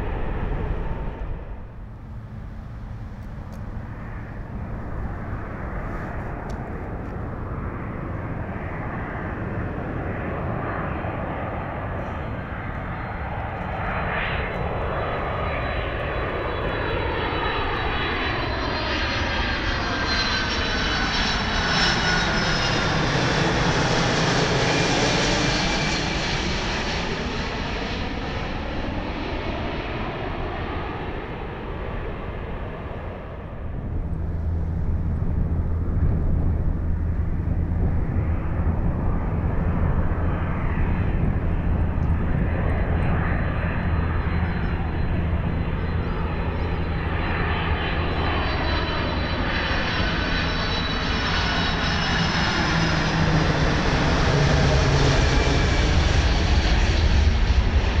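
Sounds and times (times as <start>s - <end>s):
high jet engine whine: 0.0s - 58.0s
jet plane flying overhead: 0.0s - 58.0s.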